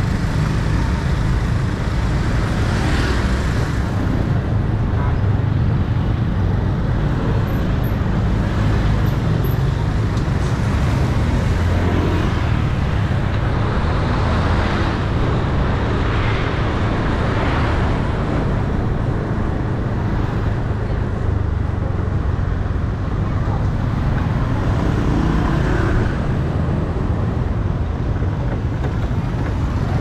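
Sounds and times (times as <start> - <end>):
scooter engines and road rumble: 0.0 - 30.0.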